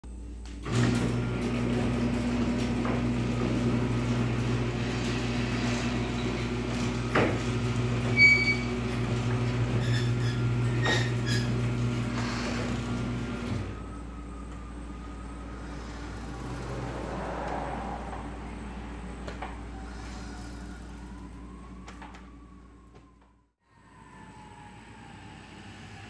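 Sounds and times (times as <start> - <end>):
garage door motor hum: 0.1 - 23.3.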